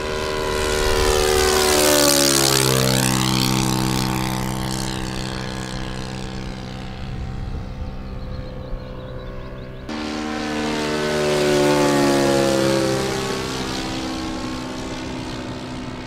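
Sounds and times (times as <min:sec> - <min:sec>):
model airplane engine passing: 0:00.0 - 0:16.0.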